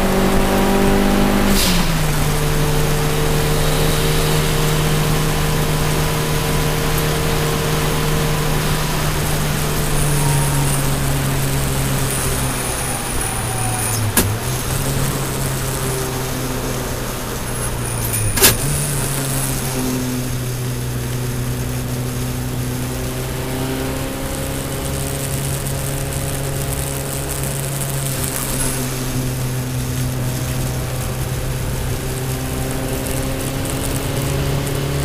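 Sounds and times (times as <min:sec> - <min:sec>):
car engine at high revs: 0:00.0 - 0:35.0.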